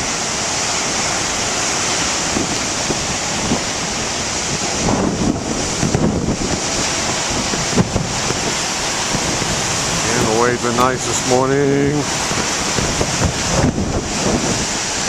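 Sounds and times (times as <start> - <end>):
ocean waves crashing on shore: 0.0 - 15.0
wind buffeting microphone: 0.0 - 15.0.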